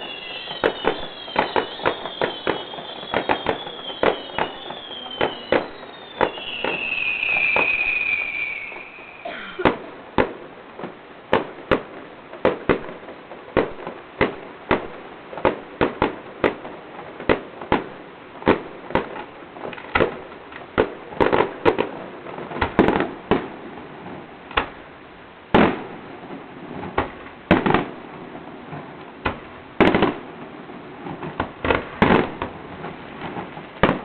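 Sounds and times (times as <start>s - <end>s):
fireworks bangs and booms: 0.0s - 34.0s.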